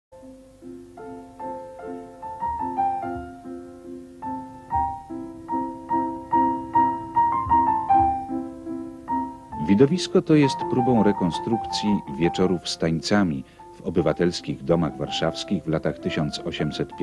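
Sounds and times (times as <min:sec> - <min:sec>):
piano music: 0:00.2 - 0:17.0.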